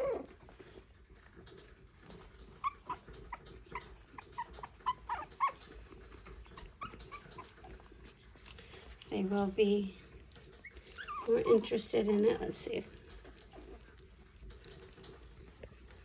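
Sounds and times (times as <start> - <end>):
puppies whimpering and squeaking: 0.0 - 16.0.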